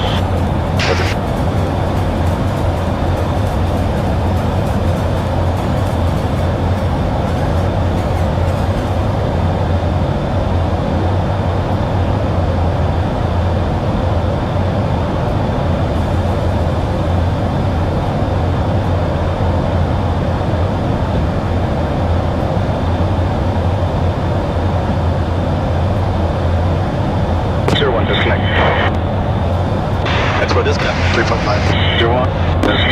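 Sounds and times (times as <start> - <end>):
aircraft engine drone: 0.0 - 32.9.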